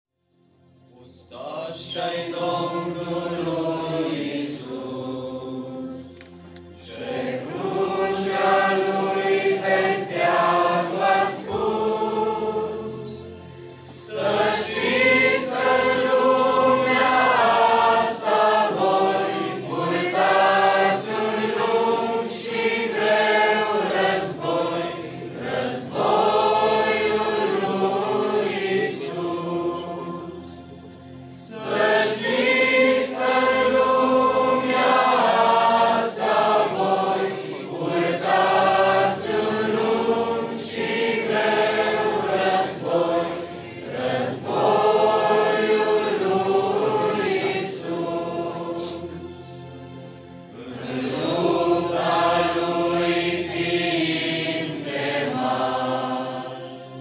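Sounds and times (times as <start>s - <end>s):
choir singing a hymn: 0.9s - 57.0s.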